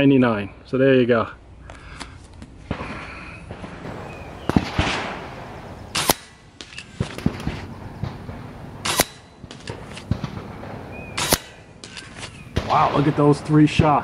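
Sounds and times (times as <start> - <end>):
air rifle shots: 2.6 - 14.0.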